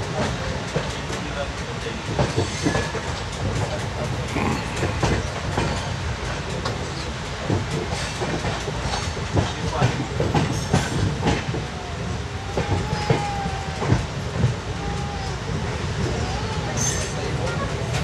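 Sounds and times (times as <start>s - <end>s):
rail joint clicks and knocks: 0.0s - 15.0s
train wheels rumbling on track: 0.0s - 18.0s.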